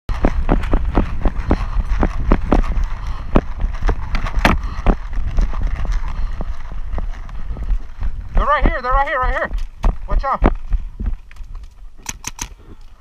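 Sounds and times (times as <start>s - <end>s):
wind rumble on microphone: 0.1s - 12.0s
gear knocking: 0.1s - 12.5s
running footsteps on dirt: 0.1s - 13.0s.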